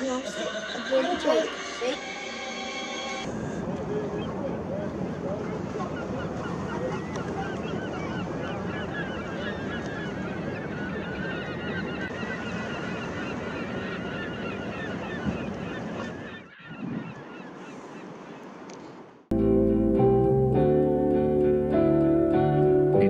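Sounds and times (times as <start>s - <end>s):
flock of birds squawking: 0.0s - 18.6s.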